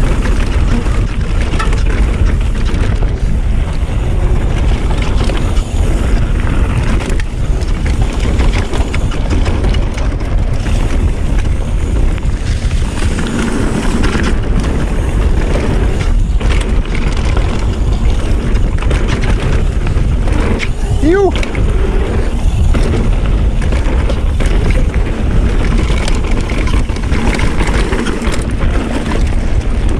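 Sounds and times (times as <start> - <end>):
bike clattering and knocking: 0.0 - 29.9
bike tyre noise: 0.0 - 29.9
wind rushing over microphone: 0.0 - 29.9.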